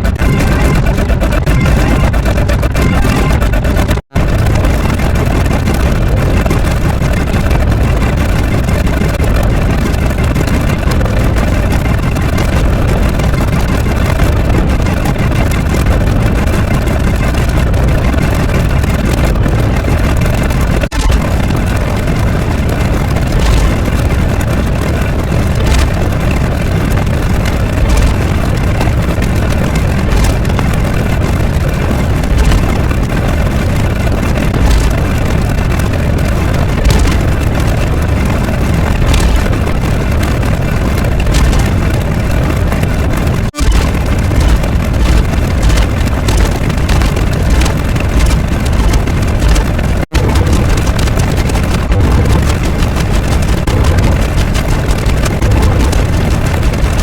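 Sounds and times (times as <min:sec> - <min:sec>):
loud engine-like rumble: 0:00.0 - 0:57.0.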